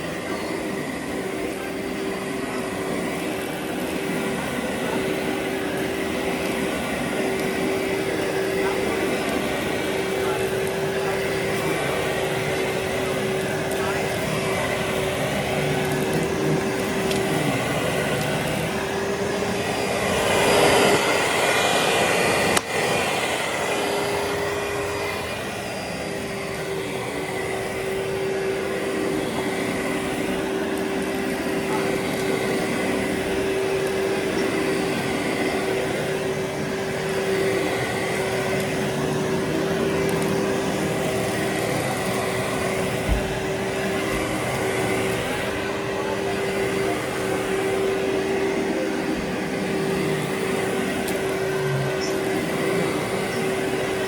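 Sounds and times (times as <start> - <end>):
vacuum cleaner running on carpet: 0.0 - 54.0.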